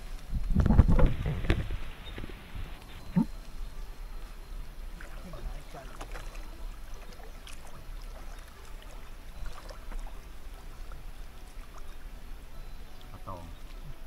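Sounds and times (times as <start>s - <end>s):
water splashing around boat: 0.0s - 14.0s.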